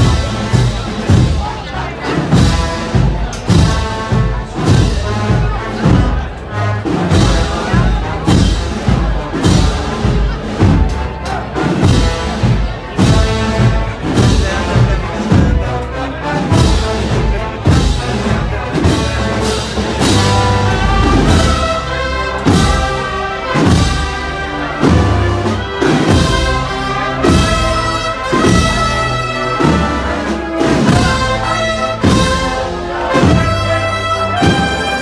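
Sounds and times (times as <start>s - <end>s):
deep drum beat: 0.0s - 6.4s, 7.0s - 35.0s
brass band playing march: 0.0s - 35.0s.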